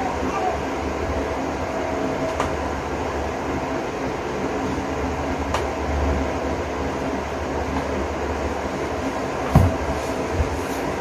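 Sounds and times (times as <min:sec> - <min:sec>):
electric fan whirring: 0:00.0 - 0:11.0.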